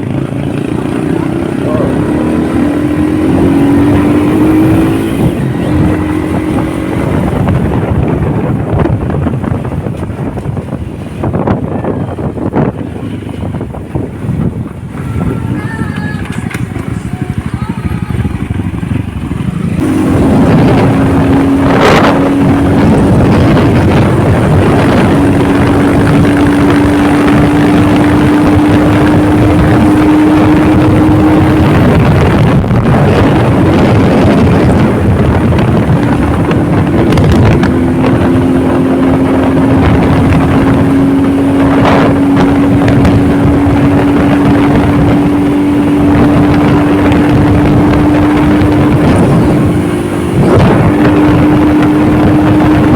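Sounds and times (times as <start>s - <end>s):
motorcycle engine cruising: 0.0s - 52.9s
wind noise on microphone: 0.0s - 52.9s.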